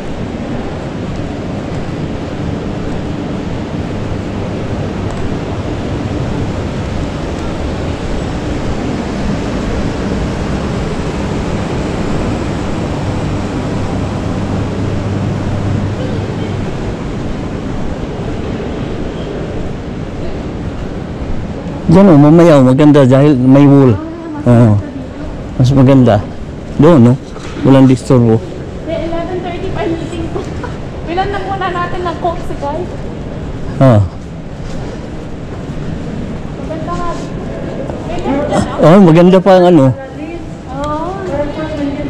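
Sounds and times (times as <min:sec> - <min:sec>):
low steady hum: 0:00.0 - 0:42.0
shopping centre background noise: 0:00.0 - 0:42.0.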